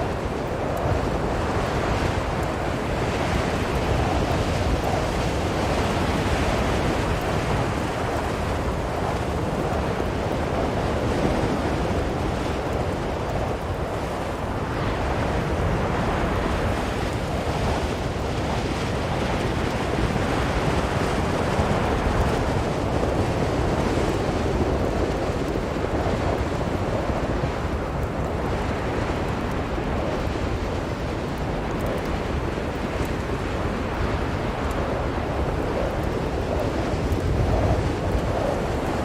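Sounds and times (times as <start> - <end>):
strong blizzard wind: 0.0 - 39.0.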